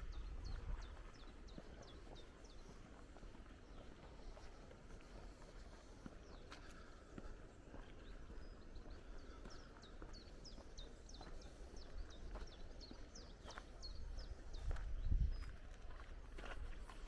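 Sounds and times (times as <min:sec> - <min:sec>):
footsteps on woodland path: 0:00.0 - 0:17.0
songbird chirping: 0:00.0 - 0:17.0.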